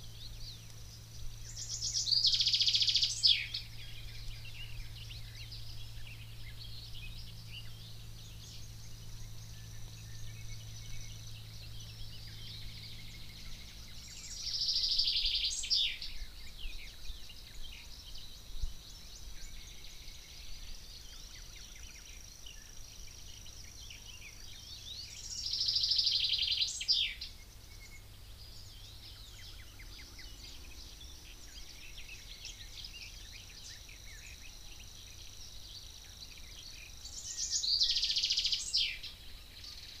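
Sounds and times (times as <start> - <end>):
bird singing a trill: 0.0 - 40.0
low steady hum: 0.0 - 40.0
small birds calling: 0.0 - 40.0.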